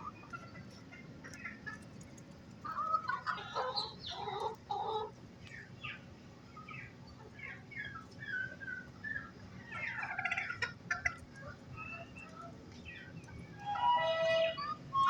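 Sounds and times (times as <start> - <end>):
hen clucking: 0.0 - 1.9, 2.6 - 15.0.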